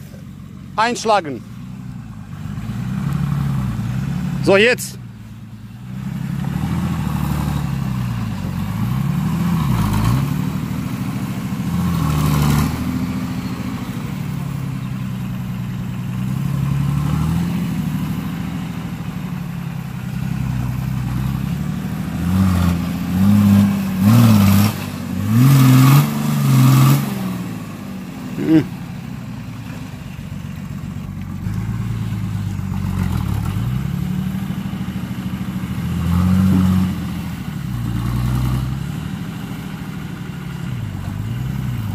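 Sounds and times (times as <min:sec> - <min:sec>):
engine revving through mud: 0:00.8 - 0:05.0, 0:05.8 - 0:28.8, 0:31.1 - 0:41.9.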